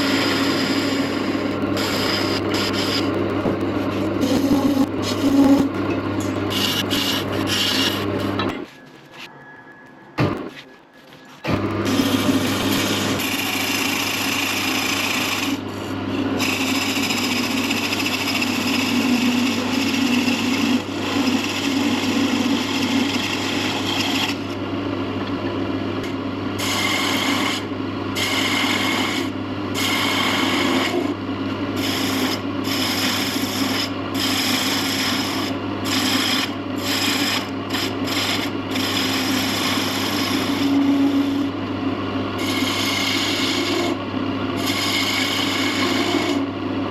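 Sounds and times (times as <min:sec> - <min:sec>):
wood lathe motor hum: 0:00.0 - 0:09.3, 0:11.0 - 0:46.9
wood rasping against lathe tool: 0:00.0 - 0:09.3, 0:10.5 - 0:24.6, 0:26.6 - 0:41.5, 0:42.4 - 0:44.0, 0:44.6 - 0:46.5.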